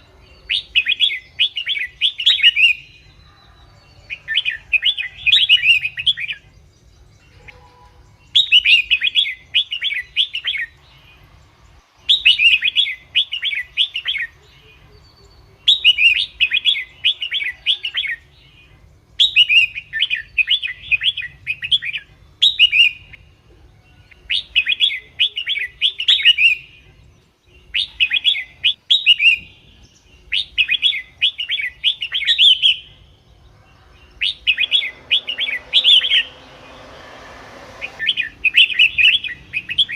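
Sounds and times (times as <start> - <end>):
bird song high notes: 0.0 - 39.9.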